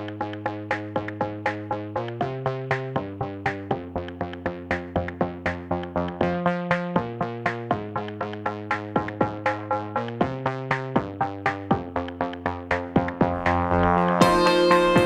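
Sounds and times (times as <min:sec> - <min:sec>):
steady electronic beat: 0:00.0 - 0:15.0
synthesizer chords: 0:00.0 - 0:15.0.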